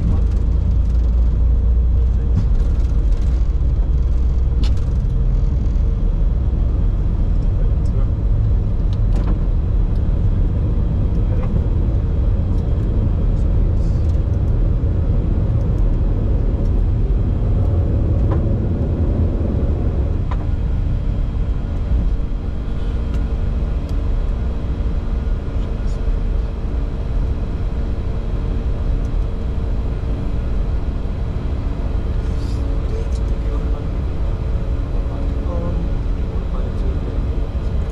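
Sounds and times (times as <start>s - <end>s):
jet engines rumbling: 0.0s - 37.9s
steady hum tones: 0.0s - 37.9s.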